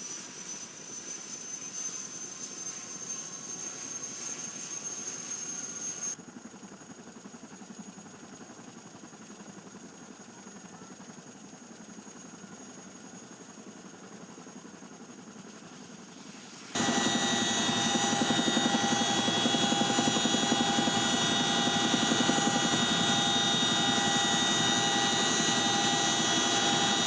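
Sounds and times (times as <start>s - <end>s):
helicopter rotor and engine hum: 0.0s - 27.0s
high-pitched turbine whine: 0.0s - 27.0s.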